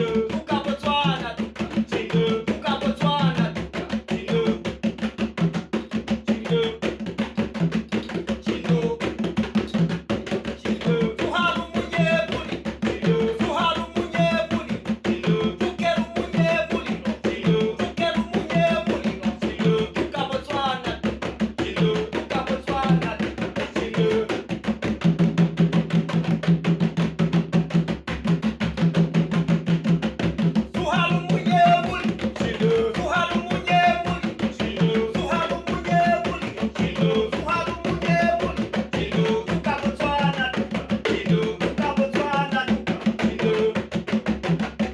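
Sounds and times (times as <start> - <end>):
music with fast beat: 0.0 - 44.9.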